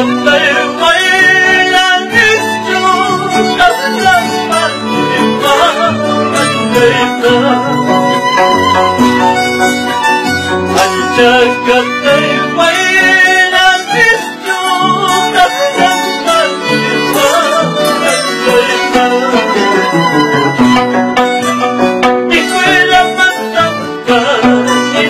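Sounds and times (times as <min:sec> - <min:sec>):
guitar: 0:00.0 - 0:25.0
man singing: 0:00.0 - 0:25.0
violin: 0:00.0 - 0:25.0.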